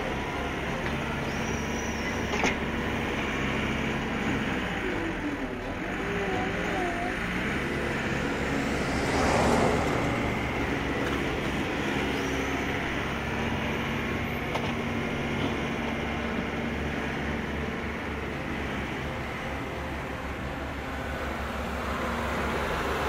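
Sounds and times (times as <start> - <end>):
wheel loader engine drone: 0.0 - 23.0.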